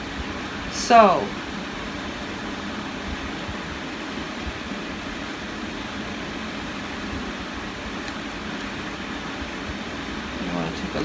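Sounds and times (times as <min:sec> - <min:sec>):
room noise hiss and hum: 0:00.0 - 0:11.0.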